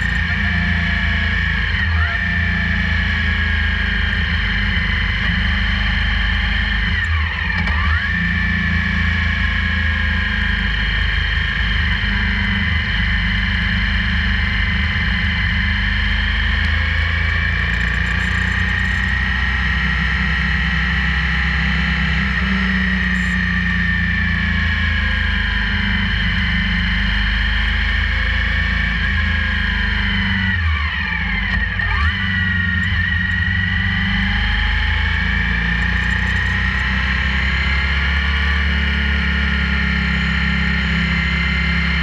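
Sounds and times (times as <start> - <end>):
motorcycle engine running: 0.0 - 42.0
road and wind noise: 0.0 - 42.0.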